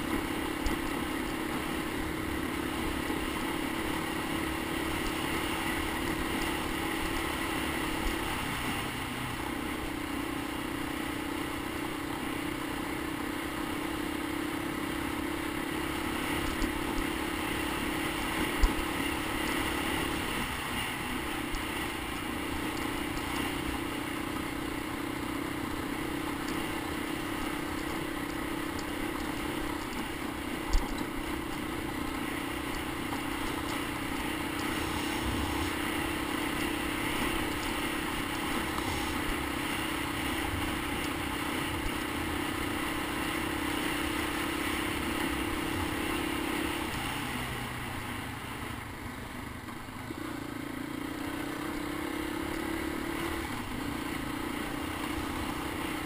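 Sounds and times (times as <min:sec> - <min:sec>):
single-cylinder engine running: 0:00.0 - 0:56.0.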